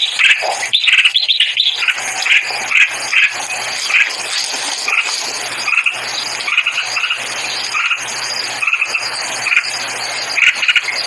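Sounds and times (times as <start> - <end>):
high insect-like buzz: 1.8 - 10.8.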